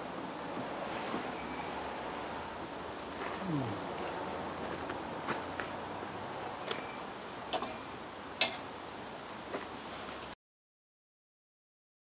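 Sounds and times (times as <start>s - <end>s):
outdoor background hiss: 0.0s - 10.4s.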